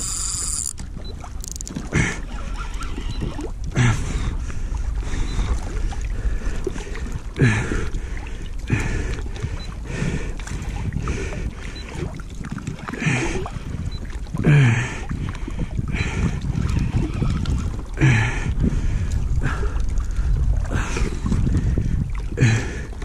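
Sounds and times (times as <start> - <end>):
water lapping against float tube: 0.0 - 23.0
wind rumble on microphone: 0.0 - 23.0.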